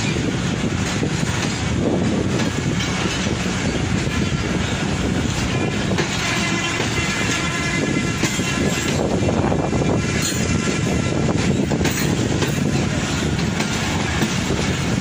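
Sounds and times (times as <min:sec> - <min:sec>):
wheels clacking over rail joints: 0:00.0 - 0:09.4, 0:10.0 - 0:15.0
train coaches rumbling past: 0:00.0 - 0:15.0.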